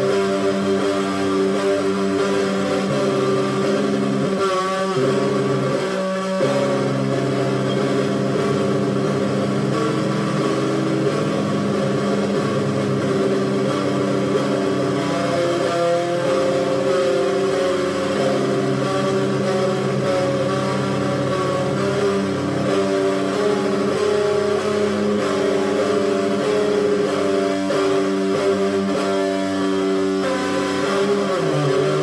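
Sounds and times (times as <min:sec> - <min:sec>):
electric guitar chords: 0:00.0 - 0:32.0.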